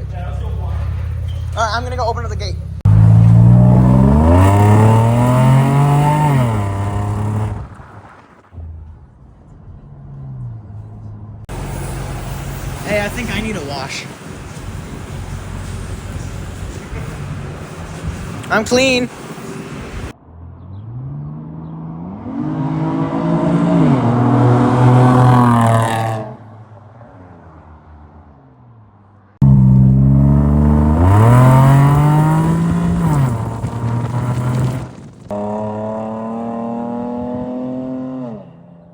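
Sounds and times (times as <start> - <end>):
car engine accelerating: 0.0 - 17.5, 20.1 - 28.4, 29.4 - 38.6.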